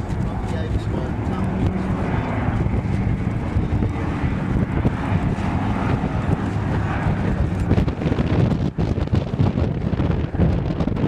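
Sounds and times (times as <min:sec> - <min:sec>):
aircraft engine drone: 0:00.0 - 0:11.0
wind buffeting microphone: 0:00.0 - 0:11.0.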